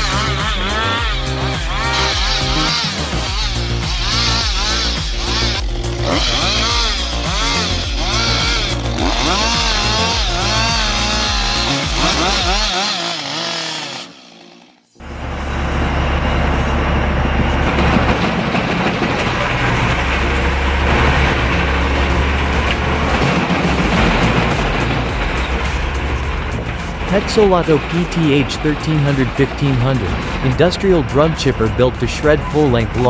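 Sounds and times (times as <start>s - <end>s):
heavy machine deep rumble: 0.0s - 12.7s, 15.0s - 33.0s
chainsaw cutting: 0.0s - 16.8s, 17.5s - 33.0s.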